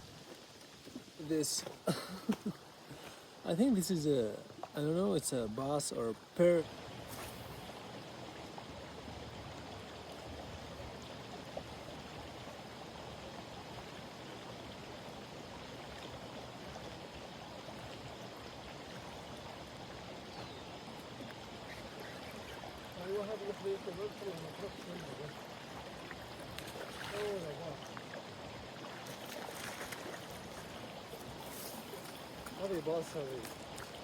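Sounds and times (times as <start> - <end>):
stream water running: 0.0 - 34.0.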